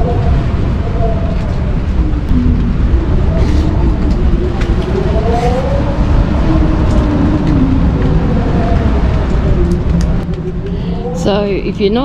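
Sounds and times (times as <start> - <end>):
wind moaning through rigging: 0.0 - 12.0.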